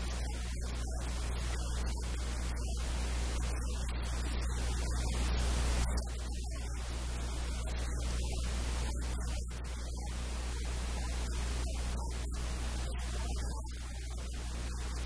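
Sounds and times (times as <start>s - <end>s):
low electrical hum: 0.0s - 15.0s
static-like hiss: 0.0s - 15.0s.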